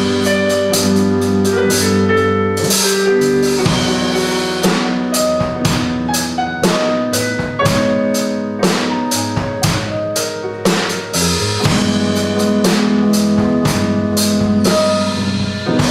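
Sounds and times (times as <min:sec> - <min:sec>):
bass notes: 0:00.0 - 0:15.9
drum accents: 0:00.0 - 0:15.9
drum kit cymbals keeping time: 0:00.0 - 0:15.9
keyboard chords: 0:00.0 - 0:15.9.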